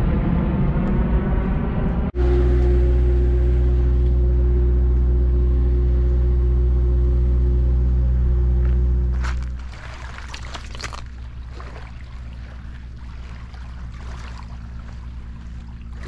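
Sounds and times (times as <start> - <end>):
engine idling: 2.1 - 16.0.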